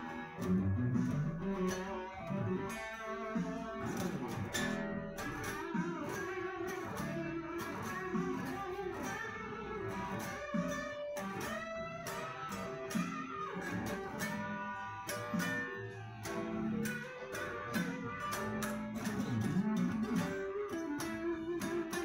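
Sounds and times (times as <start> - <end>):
electric guitar lead line: 0.0 - 22.0.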